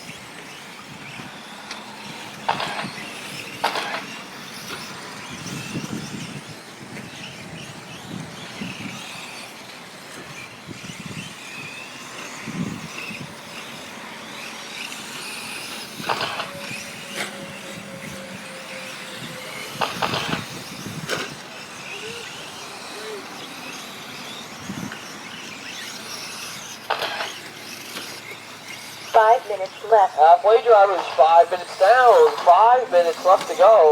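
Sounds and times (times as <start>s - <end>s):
rc truck motors whining: 0.0s - 33.9s.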